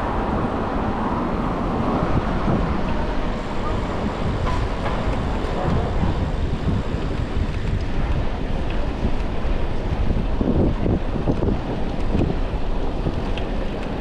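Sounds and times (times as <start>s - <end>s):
street traffic noise: 0.0s - 14.0s
wind buffeting microphone: 0.0s - 14.0s.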